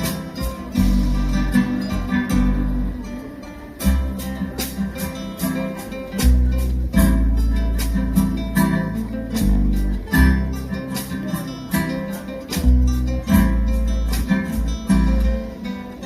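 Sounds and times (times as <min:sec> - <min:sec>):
guitar chords strummed and plucked: 0:00.0 - 0:16.0.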